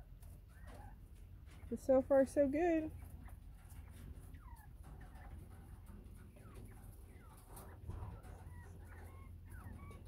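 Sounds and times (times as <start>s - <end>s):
quail chirping calls: 0.0s - 10.0s.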